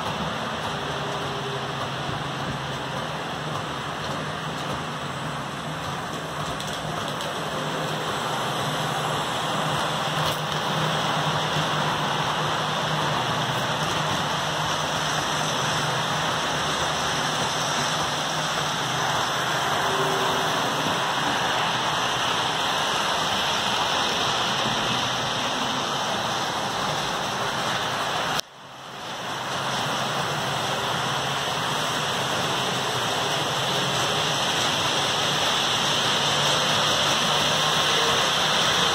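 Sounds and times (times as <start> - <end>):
model train rolling on track: 0.0 - 38.9.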